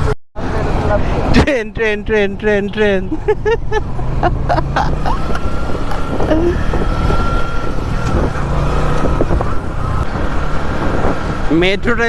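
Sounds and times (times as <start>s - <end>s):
motorcycle engine rumble: 0.0s - 12.0s
surrounding traffic: 0.0s - 12.0s.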